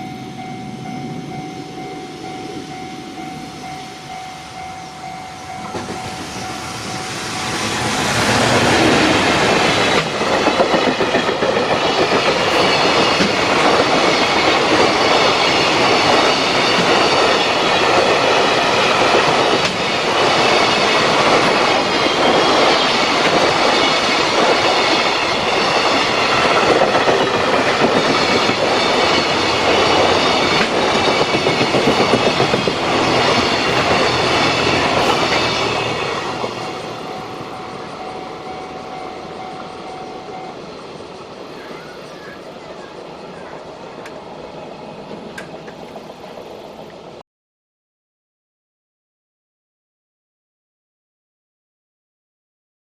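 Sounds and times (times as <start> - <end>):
freight train wagons clattering: 0.0 - 46.7.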